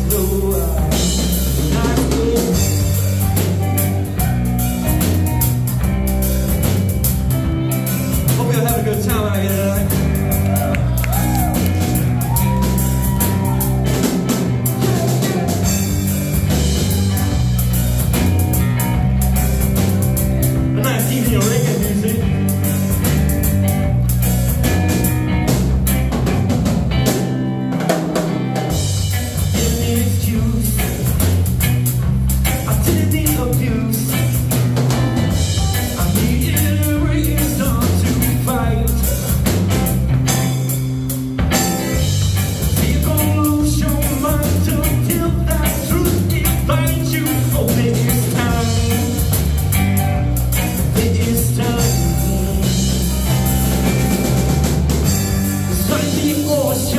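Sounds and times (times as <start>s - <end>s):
drum kit: 0.0s - 56.9s
electric bass: 0.0s - 56.9s
electric guitar: 0.0s - 56.9s.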